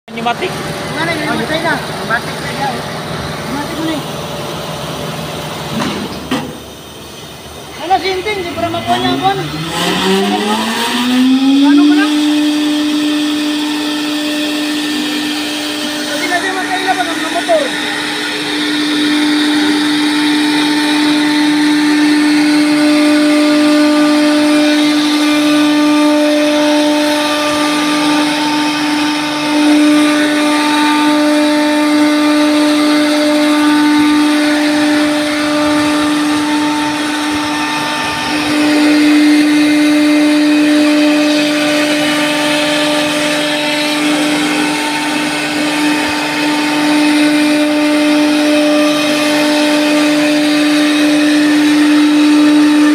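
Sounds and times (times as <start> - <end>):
router spindle motors whining: 0.1 - 52.9
router bits cutting wood: 8.0 - 52.9.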